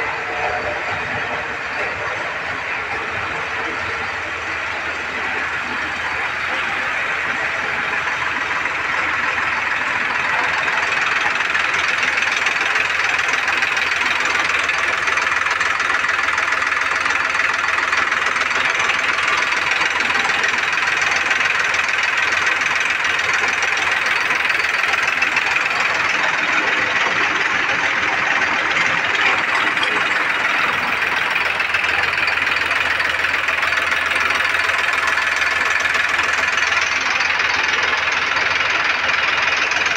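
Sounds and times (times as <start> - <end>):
feed grinder machinery spinning: 0.0 - 39.9
tractor diesel engine running: 0.0 - 39.9.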